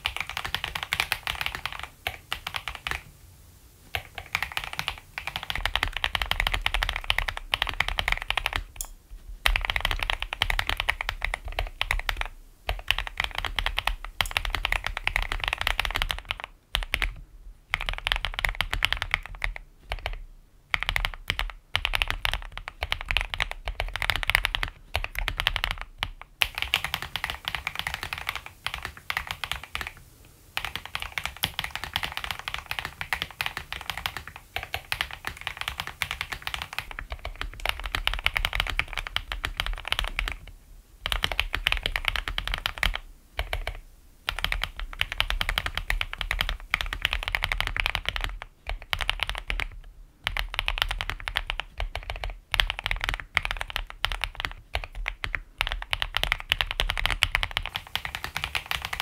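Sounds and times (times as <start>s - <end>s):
mechanical keyboard typing: 0.0s - 3.1s, 3.9s - 30.0s, 30.6s - 59.0s.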